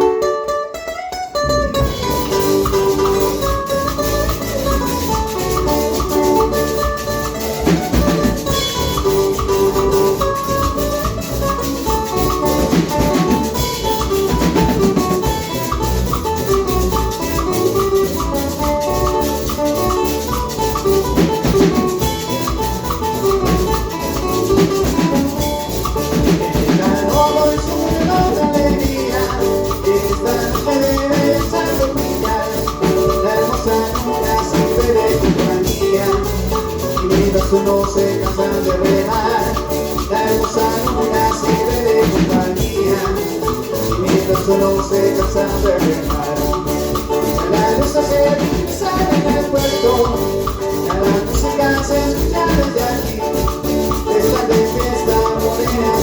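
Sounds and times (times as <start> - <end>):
drums and maracas beat: 0.0 - 56.0
latin dance music melody: 0.0 - 56.0.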